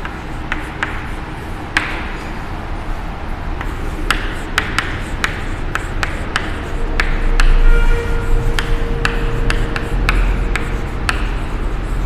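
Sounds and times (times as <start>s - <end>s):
chalk tapping on blackboard: 0.0s - 2.4s, 3.5s - 12.0s
chalk scratching: 0.0s - 12.0s.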